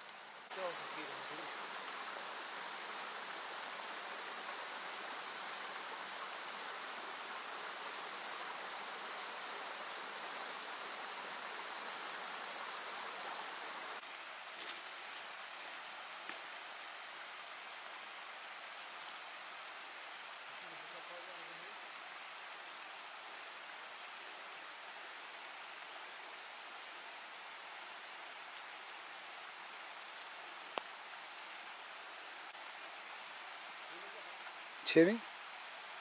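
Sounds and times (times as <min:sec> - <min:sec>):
stream running water: 0:00.0 - 0:36.0.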